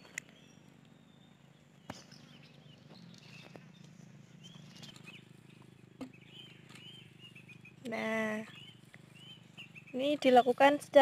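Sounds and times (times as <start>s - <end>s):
faint bird chirps: 0.0s - 11.0s
low steady hum: 0.0s - 11.0s.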